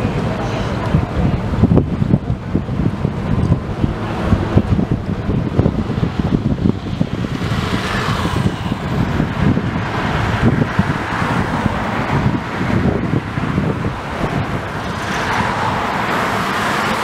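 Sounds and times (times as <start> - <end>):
city street traffic passing: 0.0 - 17.0
wind rumbling on microphone: 0.0 - 17.0.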